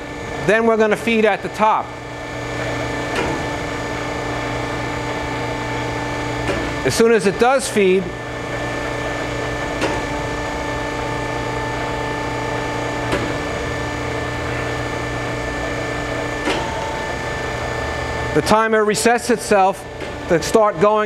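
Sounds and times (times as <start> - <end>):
grinder hum and whine: 0.0 - 21.0.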